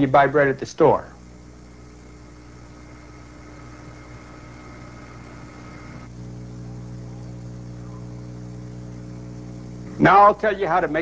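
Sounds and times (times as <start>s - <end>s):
faint high whine: 0.0s - 11.0s
low electrical hum: 0.0s - 11.0s
tape hiss: 0.0s - 11.0s.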